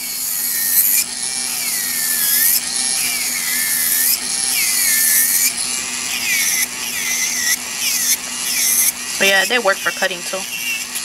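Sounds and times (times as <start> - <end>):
electric nail drill grinding: 0.0 - 11.0.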